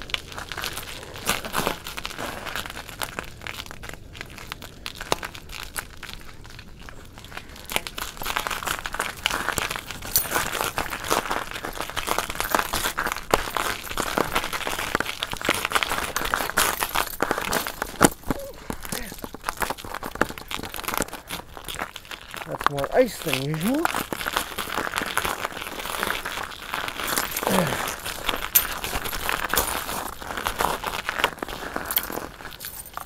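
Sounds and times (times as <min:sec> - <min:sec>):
bicycle crunching over snow and ice: 0:00.0 - 0:33.0.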